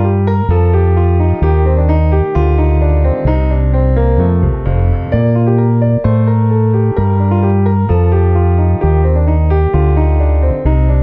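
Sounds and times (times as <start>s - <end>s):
instrumental keyboard music: 0.0s - 11.0s.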